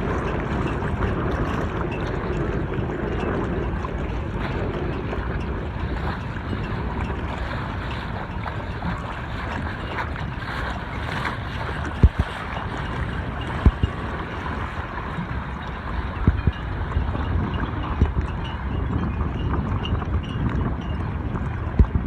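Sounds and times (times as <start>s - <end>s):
choppy lake water: 0.0s - 22.0s
wind buffeting microphone: 0.0s - 22.0s.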